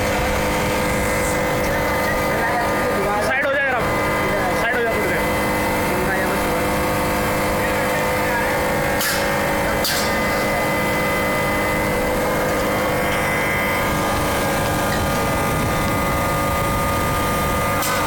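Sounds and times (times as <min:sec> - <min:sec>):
packing machine drone: 0:00.0 - 0:18.0.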